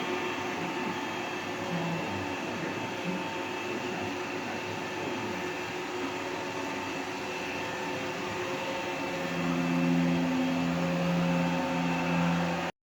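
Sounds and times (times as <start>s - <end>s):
robot vacuum cleaner whirring: 0.0s - 12.7s.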